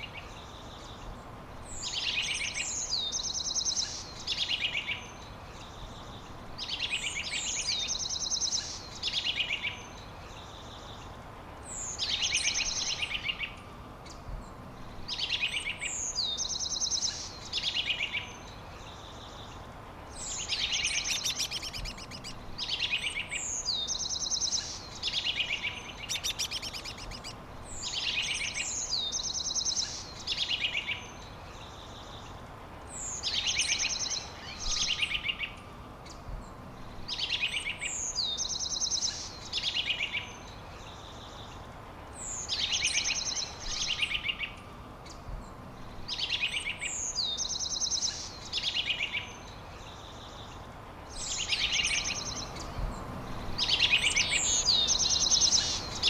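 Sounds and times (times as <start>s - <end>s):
songbird singing with buzzy trill: 0.0s - 56.0s.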